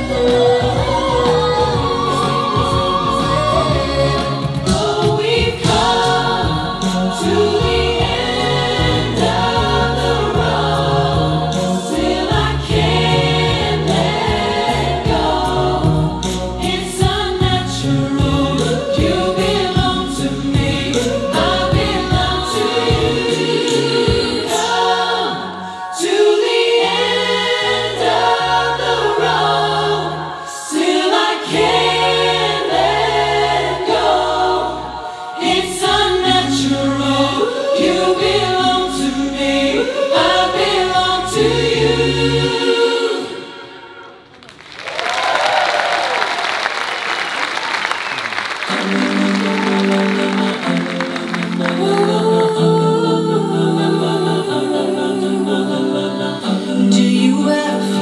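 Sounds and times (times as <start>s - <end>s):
vocal group singing in harmony: 0.0s - 58.0s.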